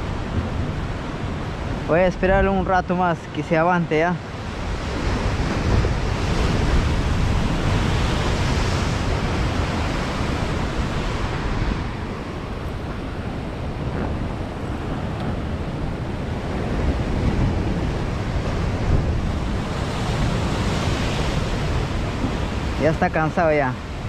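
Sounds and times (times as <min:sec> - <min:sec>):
wind buffeting microphone: 0:00.0 - 0:24.0
surf breaking against rocks: 0:04.4 - 0:24.0.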